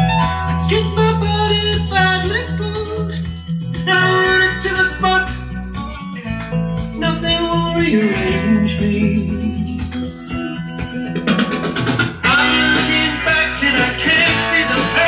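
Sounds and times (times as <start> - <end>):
guitar music from vinyl record: 0.0 - 15.0.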